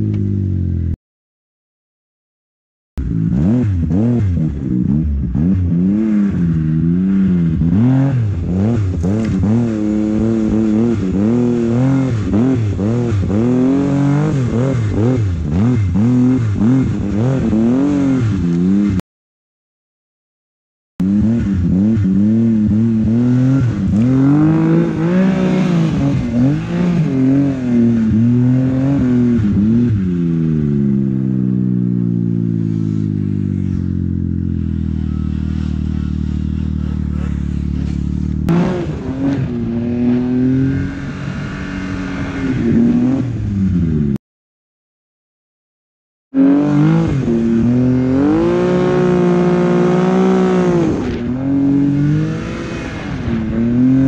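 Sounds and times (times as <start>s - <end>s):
track and snow noise: 0.0s - 1.0s, 3.0s - 19.0s, 21.0s - 44.2s, 46.4s - 54.0s
snowmobile engine revving: 3.0s - 19.0s, 21.0s - 44.2s, 46.4s - 54.0s.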